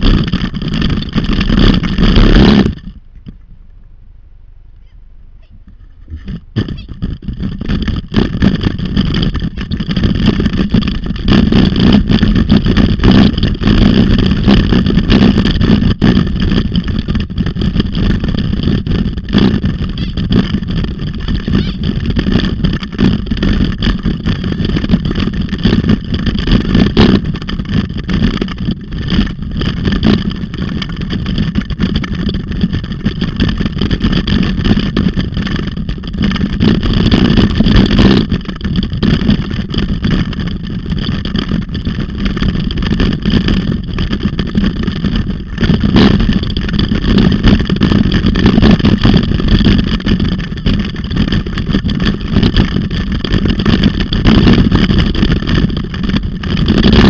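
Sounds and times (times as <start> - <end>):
camera shaking: 0.0 - 3.6, 4.8 - 57.0
wheels rumbling over dirt trail: 0.0 - 4.0, 4.8 - 57.0.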